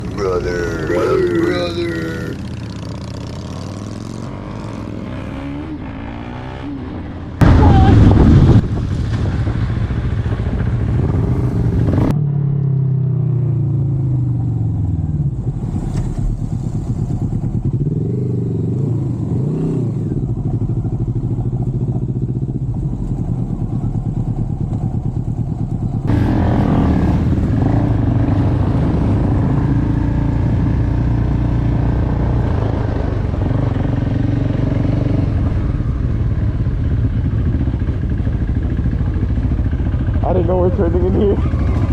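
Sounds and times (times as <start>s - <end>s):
motorcycle engine running: 0.0s - 8.2s, 9.4s - 41.9s.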